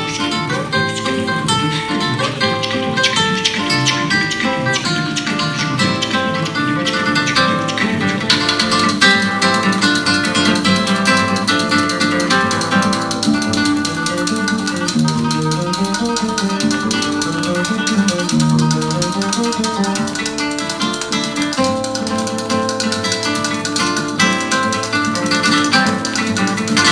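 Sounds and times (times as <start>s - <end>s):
plucked guitar music with beat: 0.0s - 26.9s.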